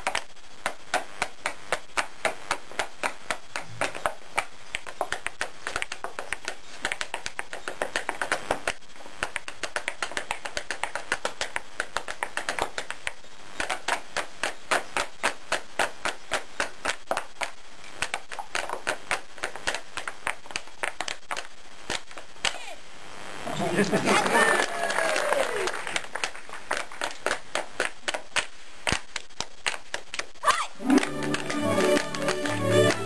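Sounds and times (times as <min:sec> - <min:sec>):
dance shoes tapping on stage floor: 0:00.0 - 0:22.6, 0:26.2 - 0:33.0.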